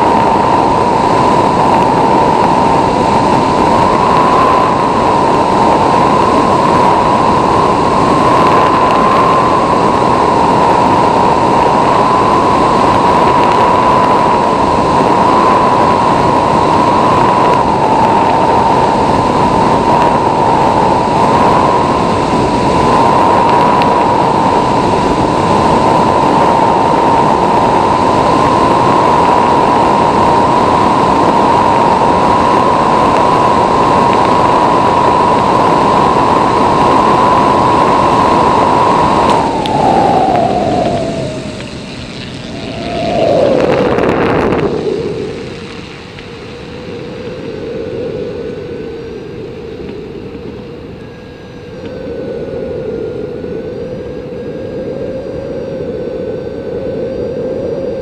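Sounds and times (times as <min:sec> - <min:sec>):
plane engine droning: 0:00.0 - 0:58.0
wind rushing over microphone: 0:00.0 - 0:58.0.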